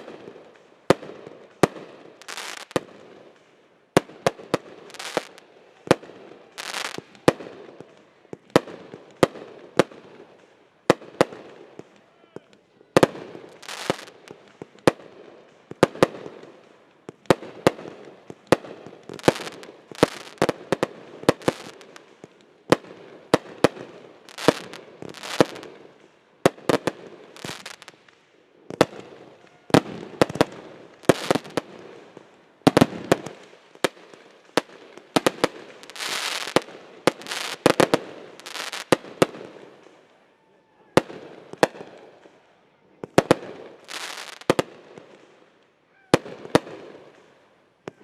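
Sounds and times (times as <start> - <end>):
fireworks bangs: 0.0 - 48.0
fireworks hissing and crackling: 0.0 - 48.0.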